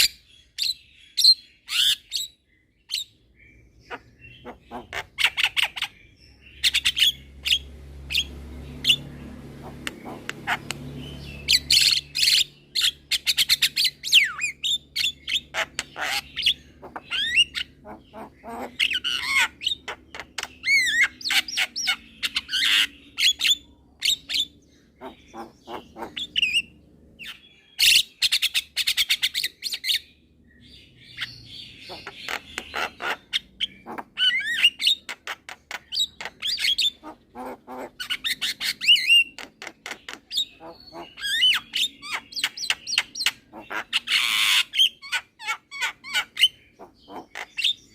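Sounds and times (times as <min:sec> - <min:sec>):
bird singing: 0:00.0 - 0:47.9.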